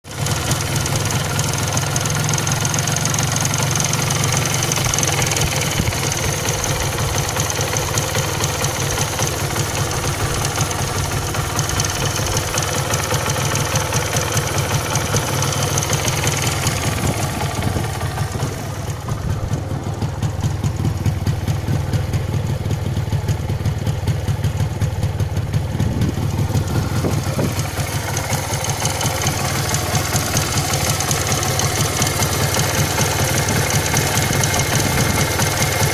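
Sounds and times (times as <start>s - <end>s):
two-stroke engine idling: 0.1s - 35.9s.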